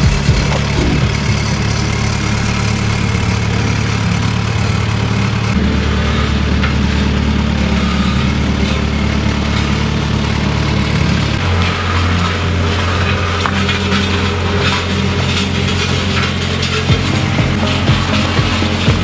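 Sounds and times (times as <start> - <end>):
road roller engine running: 0.0 - 19.0.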